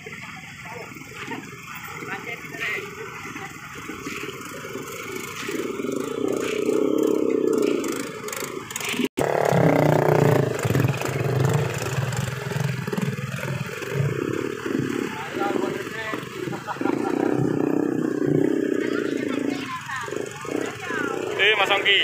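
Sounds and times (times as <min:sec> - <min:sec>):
scooter engines revving: 0:00.0 - 0:22.0.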